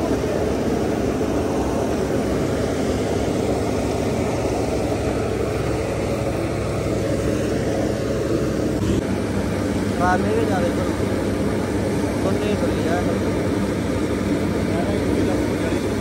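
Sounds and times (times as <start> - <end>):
tractor engine and straw reaper drone: 0.0 - 16.0.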